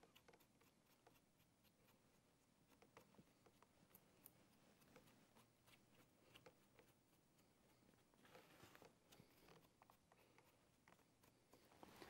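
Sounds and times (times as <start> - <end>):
soft brushing stroke: 0.5 - 12.0.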